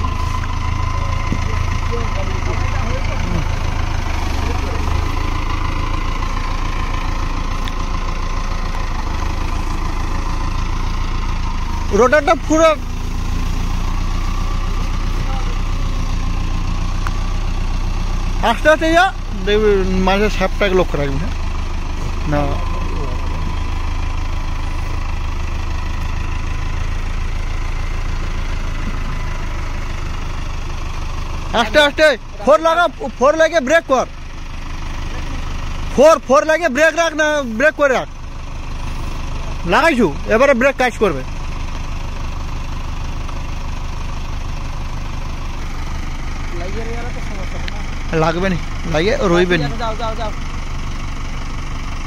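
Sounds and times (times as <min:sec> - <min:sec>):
tractor diesel engine throbbing: 0:00.0 - 0:52.0.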